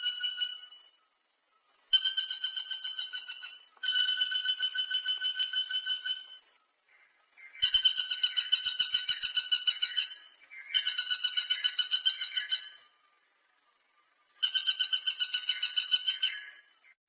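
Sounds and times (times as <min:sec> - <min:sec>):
woodpecker rattling trills: 0:00.0 - 0:17.0.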